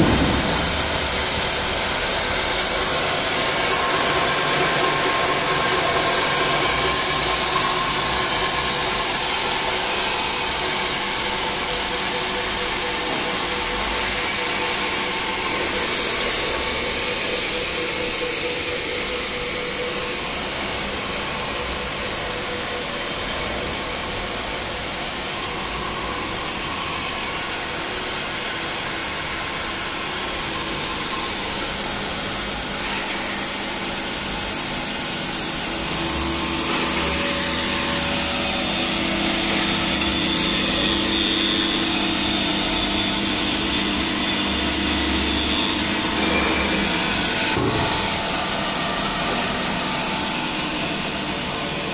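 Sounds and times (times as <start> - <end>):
paper cutting machine running: 0.0 - 51.9.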